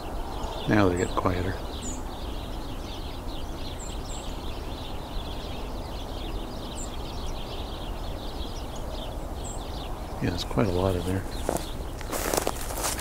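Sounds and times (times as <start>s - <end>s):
flock of sparrows chirping: 0.0s - 13.0s.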